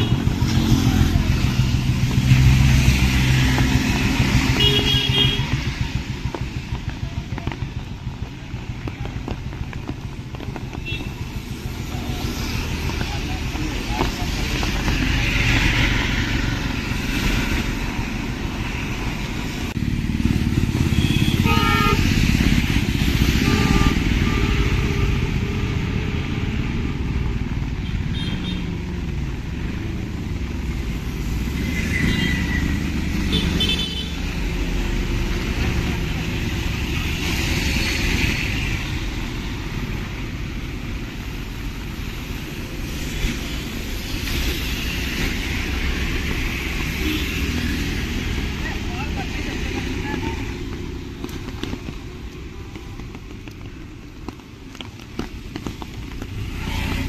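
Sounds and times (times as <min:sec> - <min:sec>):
motorcycles and cars passing: 0:00.0 - 0:57.0.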